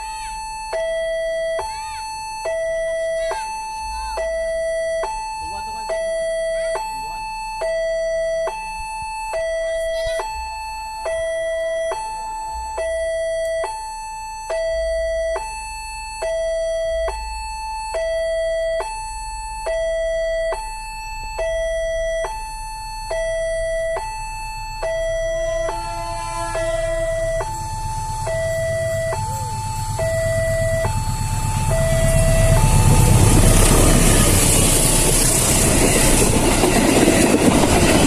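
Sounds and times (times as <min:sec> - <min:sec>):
level crossing two-tone alarm: 0:00.0 - 0:38.0.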